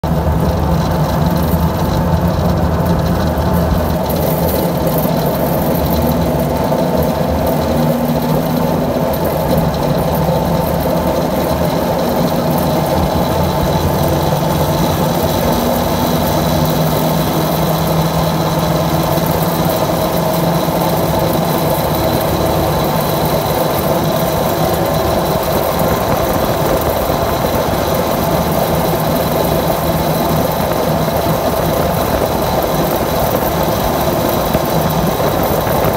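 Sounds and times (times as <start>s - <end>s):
steady engine hum: 0.0s - 35.9s.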